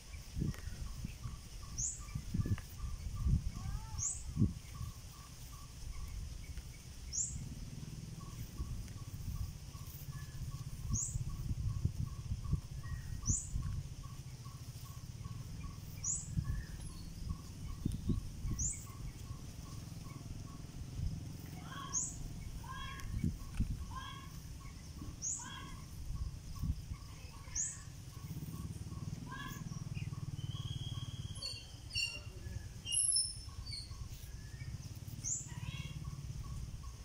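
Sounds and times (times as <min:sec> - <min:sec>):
steady low rumble: 0:00.0 - 0:31.3
birds calling: 0:00.0 - 0:37.0.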